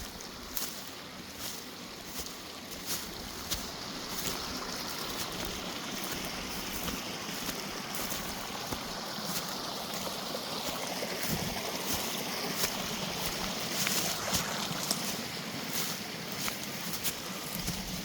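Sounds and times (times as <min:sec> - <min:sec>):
creek rushing: 0:00.0 - 0:18.0.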